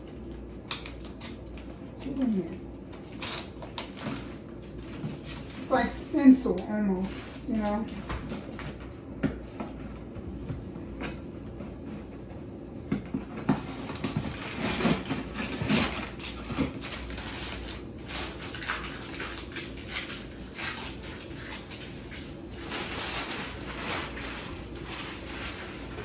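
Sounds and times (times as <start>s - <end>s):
cardboard and paper rustling: 1.2s - 26.0s.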